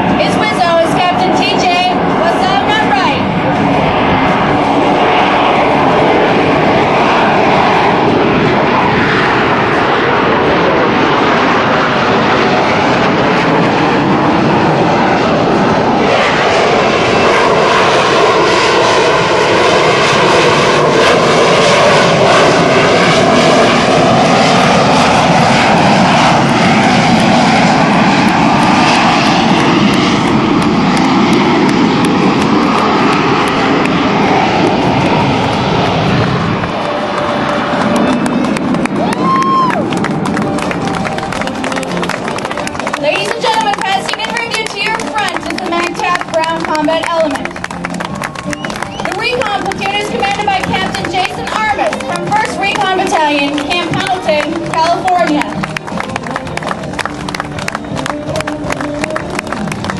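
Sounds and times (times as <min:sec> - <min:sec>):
military jet engines roaring: 0:00.0 - 0:59.9.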